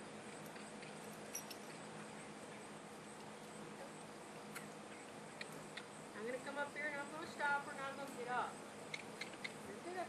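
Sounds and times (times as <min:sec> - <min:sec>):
faint steady hiss: 0:00.0 - 0:10.0
insects chirring: 0:00.0 - 0:10.0.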